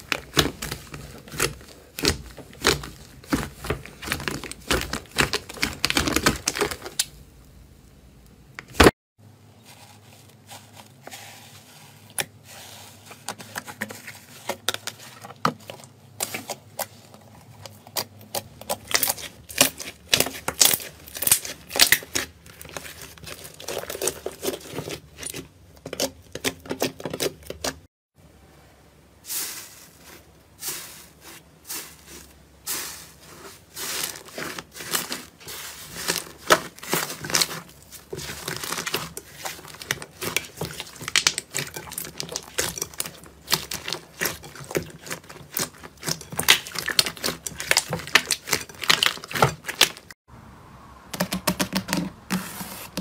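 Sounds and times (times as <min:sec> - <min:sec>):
slime crackling and squelching: 0:00.0 - 0:07.4, 0:09.6 - 0:27.9, 0:29.3 - 0:50.2.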